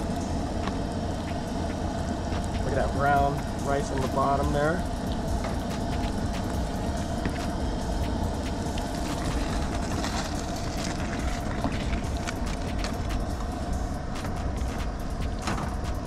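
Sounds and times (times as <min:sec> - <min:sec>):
camp stove low rumble: 0:00.0 - 0:16.0.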